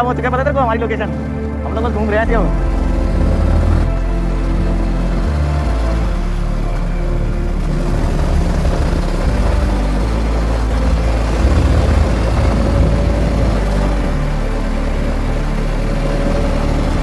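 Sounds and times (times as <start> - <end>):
motorcycle engine running: 0.8 - 17.0.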